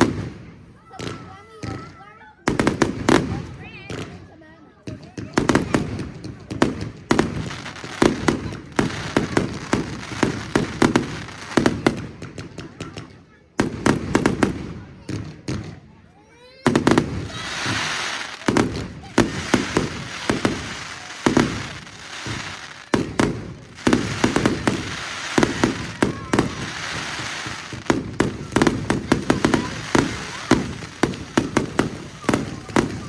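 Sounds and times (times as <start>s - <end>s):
firework bangs: 0.0s - 4.2s, 4.9s - 15.8s, 16.6s - 33.0s
fireworks crackling and fizzing: 0.0s - 33.0s.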